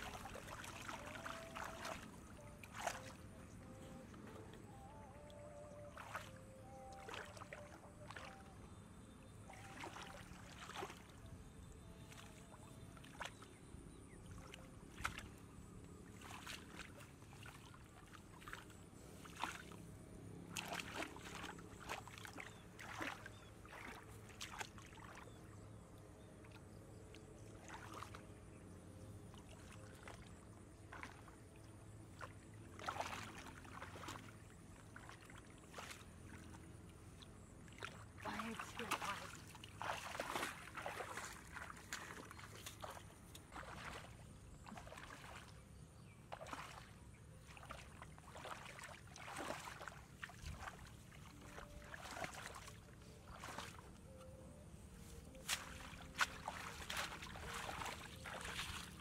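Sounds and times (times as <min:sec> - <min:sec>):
low steady hum: 0:00.0 - 0:59.0
splashing in shallow water: 0:00.0 - 0:59.0.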